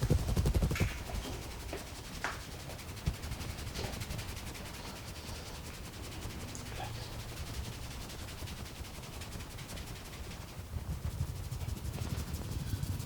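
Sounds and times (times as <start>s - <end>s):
hands rubbing: 0.0s - 10.6s.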